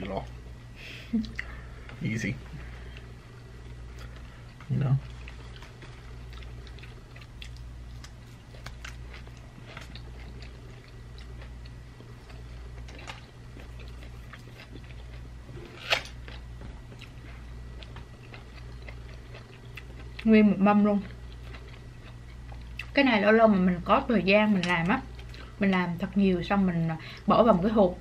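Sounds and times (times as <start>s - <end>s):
people chewing and crunching food: 1.0s - 23.3s, 24.5s - 26.1s.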